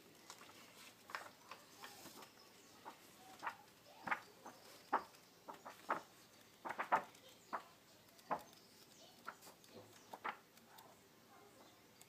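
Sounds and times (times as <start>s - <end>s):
comic book pages flipping: 0.1s - 10.7s.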